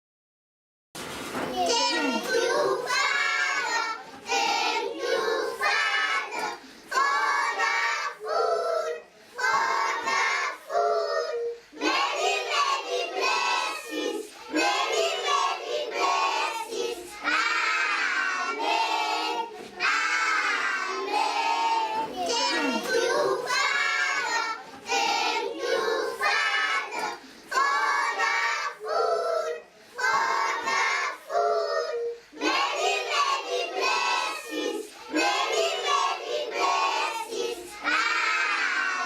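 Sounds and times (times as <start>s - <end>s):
children singing: 1.5s - 39.0s.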